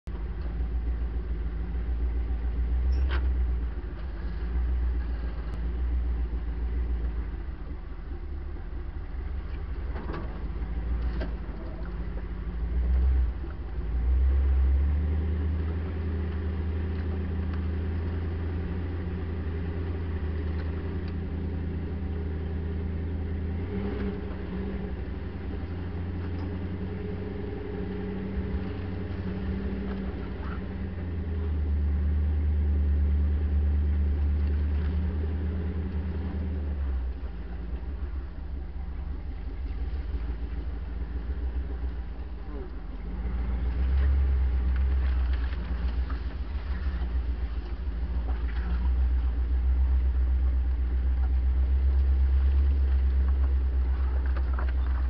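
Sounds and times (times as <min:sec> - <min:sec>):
truck engine driving: 0:00.0 - 0:55.0.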